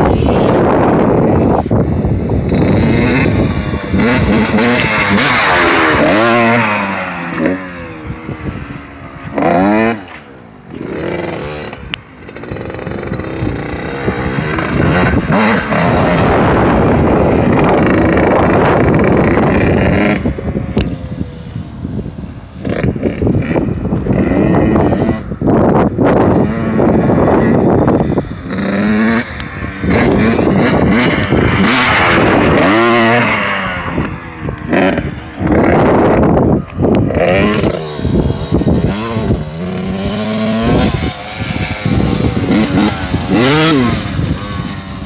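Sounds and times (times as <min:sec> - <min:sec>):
dirt bike engine revving: 0:00.0 - 0:20.8, 0:22.6 - 0:45.0.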